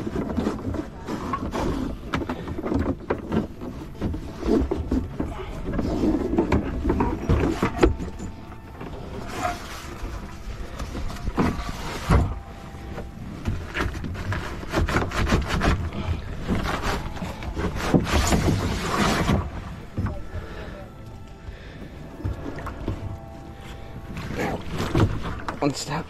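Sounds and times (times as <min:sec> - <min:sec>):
kayak knocking and scraping: 0:00.0 - 0:26.0.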